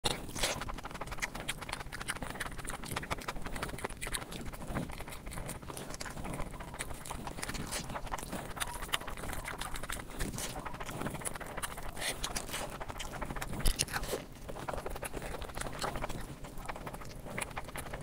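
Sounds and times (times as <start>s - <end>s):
person chewing and smacking food: 0.0s - 18.0s.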